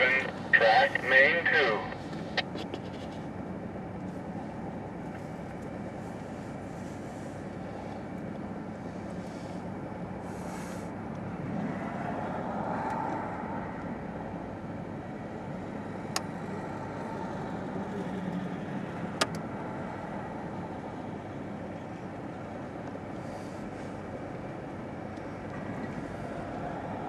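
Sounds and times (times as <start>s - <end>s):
freight train rumbling: 0.0s - 27.0s.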